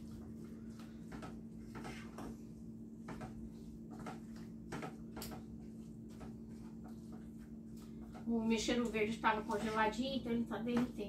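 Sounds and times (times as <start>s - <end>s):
wooden spoon scraping saucepan: 0.0s - 5.0s, 5.7s - 10.8s.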